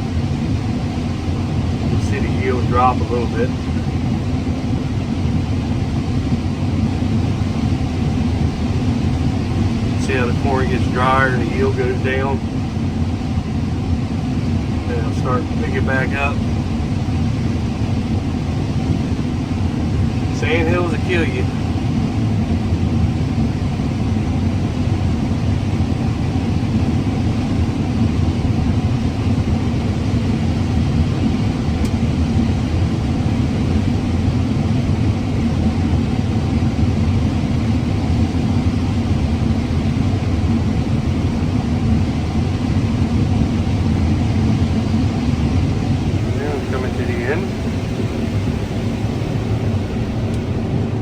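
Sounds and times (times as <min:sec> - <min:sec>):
combine harvester rumble: 0:00.0 - 0:51.0.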